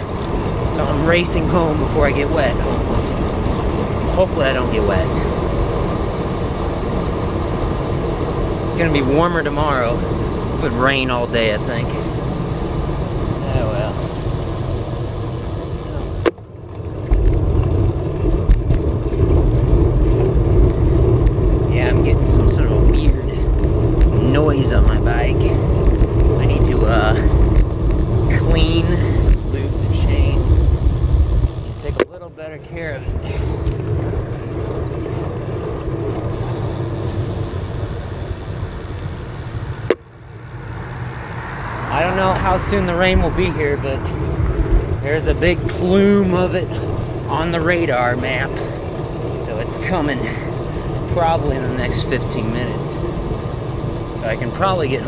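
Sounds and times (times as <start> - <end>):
bicycle road noise: 0.0 - 55.0
wind rumbling on microphone: 0.0 - 55.0.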